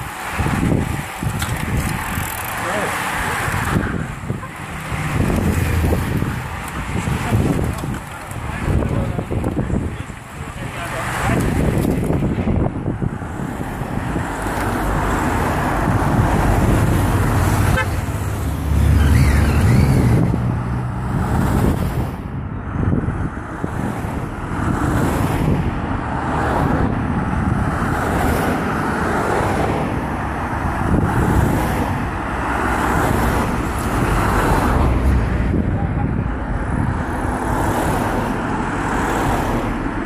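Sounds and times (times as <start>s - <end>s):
cars passing close: 0.0s - 40.0s.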